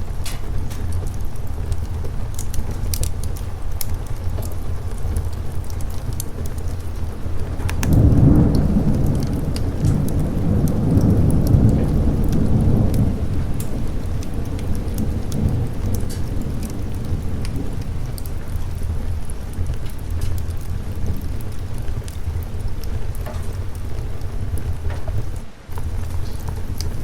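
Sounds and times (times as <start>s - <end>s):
steady rain: 0.0s - 27.0s
thunder rolling: 0.0s - 27.0s
wood fire crackling: 0.0s - 27.0s.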